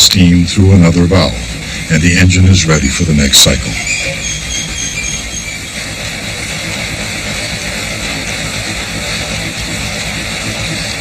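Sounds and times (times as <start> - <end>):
steam engine running: 0.0 - 11.0.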